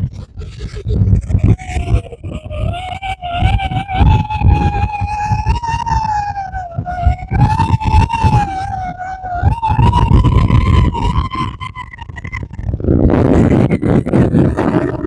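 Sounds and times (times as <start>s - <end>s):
strong wind gusting on microphone: 0.0s - 15.0s.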